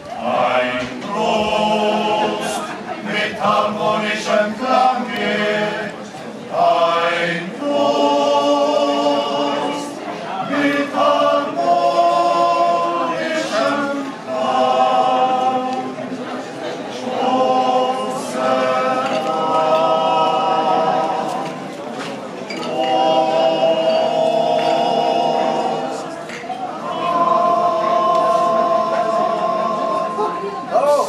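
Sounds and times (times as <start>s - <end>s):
men singing in harmony: 0.1s - 21.8s, 22.5s - 30.8s.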